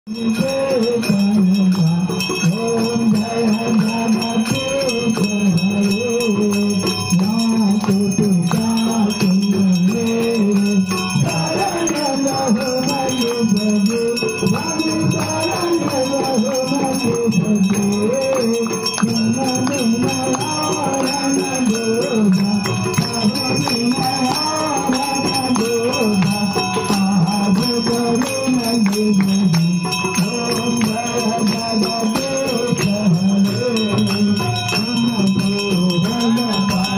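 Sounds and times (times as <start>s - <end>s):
bells ringing: 0.1s - 36.9s
hymn melody: 0.8s - 36.9s.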